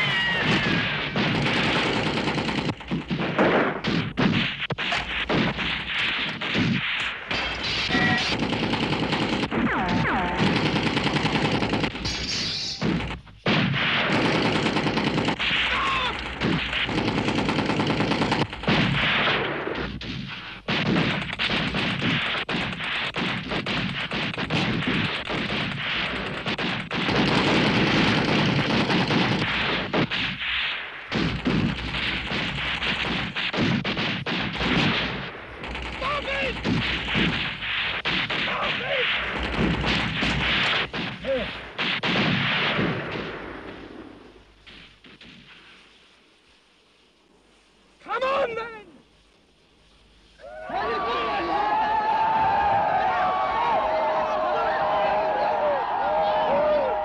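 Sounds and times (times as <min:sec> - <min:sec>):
machine gun and rifles firing: 0:00.0 - 0:45.9.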